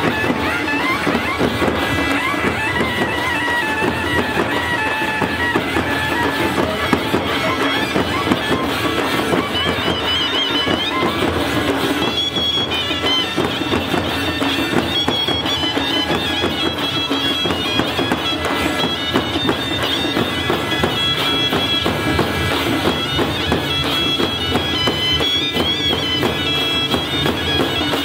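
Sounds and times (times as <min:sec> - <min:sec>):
barrel drums beating: 0:00.0 - 0:28.0
shrill reed pipe melody: 0:00.0 - 0:28.0.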